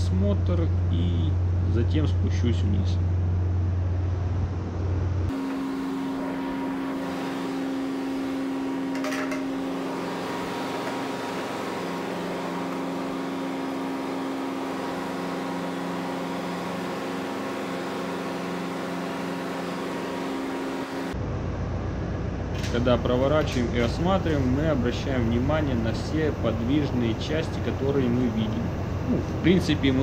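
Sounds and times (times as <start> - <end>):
engine room machinery drone: 0.0 - 30.0.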